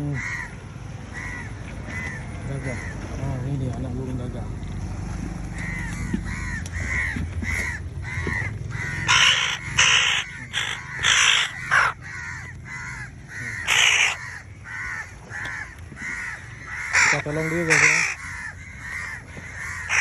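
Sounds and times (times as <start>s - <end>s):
crow harsh caws: 0.0s - 3.0s, 5.6s - 20.0s
crows short arching calls: 0.1s - 3.0s, 5.6s - 20.0s.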